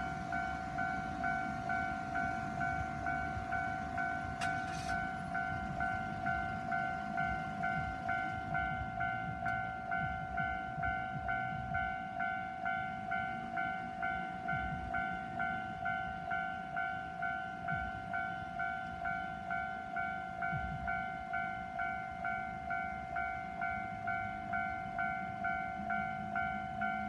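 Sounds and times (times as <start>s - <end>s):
level crossing warning bell: 0.0s - 27.0s
train rumbling on track: 0.0s - 27.0s.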